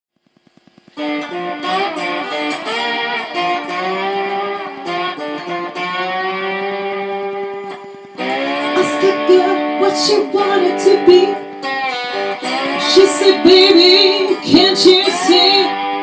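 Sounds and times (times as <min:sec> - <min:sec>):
lap steel guitar sliding notes: 0:00.9 - 0:16.0.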